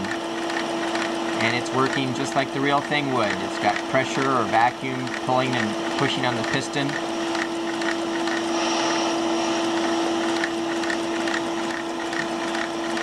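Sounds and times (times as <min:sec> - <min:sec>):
electric air pump humming: 0:00.0 - 0:13.0.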